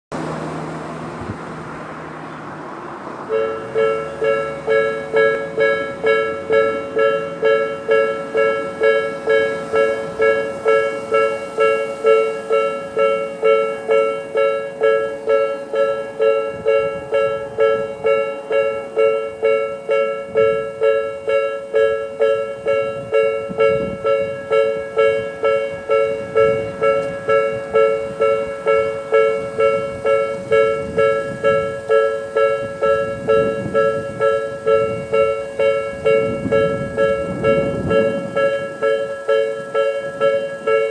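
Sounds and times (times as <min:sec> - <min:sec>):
level crossing warning bell: 0:03.2 - 0:40.9.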